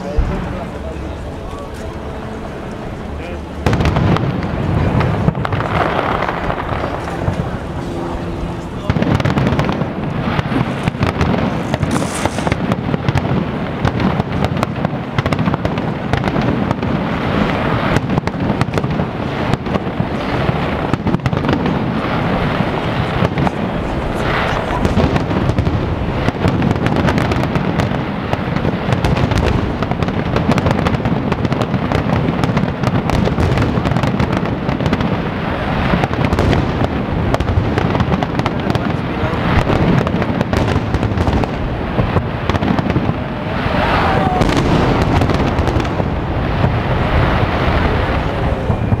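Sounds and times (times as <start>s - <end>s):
fireworks bangs and pops: 0.0s - 2.1s, 3.6s - 49.0s.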